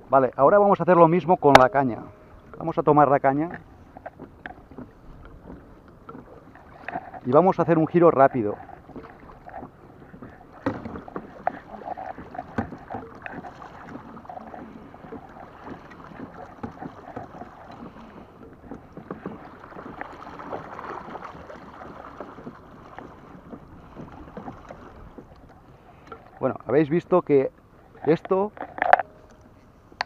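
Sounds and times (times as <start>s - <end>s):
water splashing against kayak hull: 0.9s - 30.0s.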